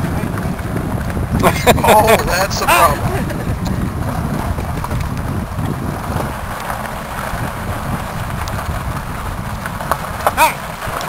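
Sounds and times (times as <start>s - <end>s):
wheels rolling over gravel: 0.0s - 11.0s
wind noise on microphone: 0.0s - 11.0s.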